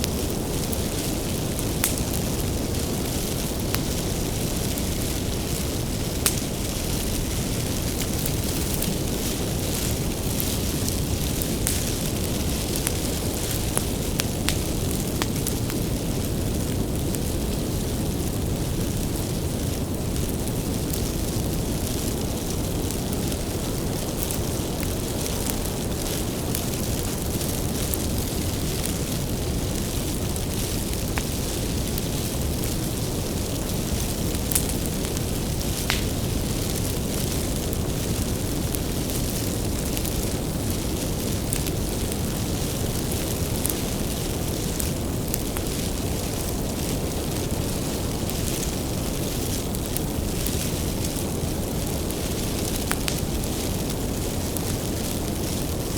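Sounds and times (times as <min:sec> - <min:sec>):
firewood crackling and popping: 0:00.0 - 0:55.9
low rumble of flames: 0:00.0 - 0:55.9.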